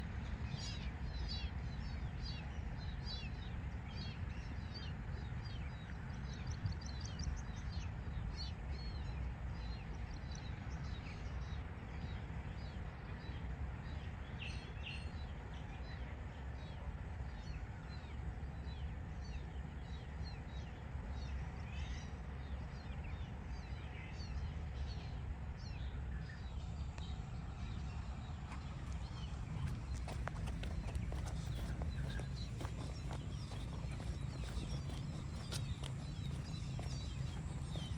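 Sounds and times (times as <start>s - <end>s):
low background rumble: 0.0s - 37.9s
small birds chirping: 0.1s - 37.9s.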